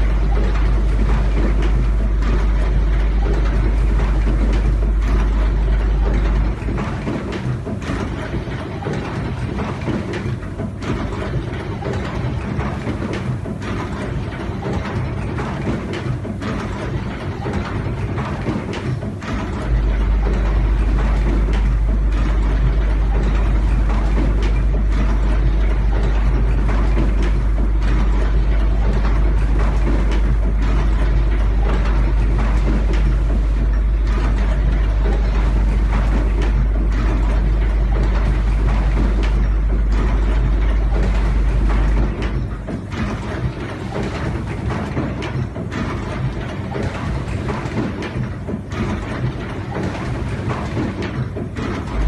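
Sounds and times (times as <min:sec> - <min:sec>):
crimping machine clattering: 0:00.0 - 0:52.0.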